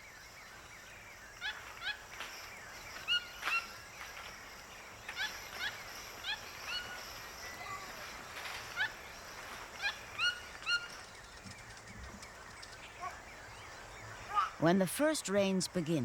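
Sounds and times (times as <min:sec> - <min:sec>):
faint forest background hiss: 0:00.0 - 0:16.0.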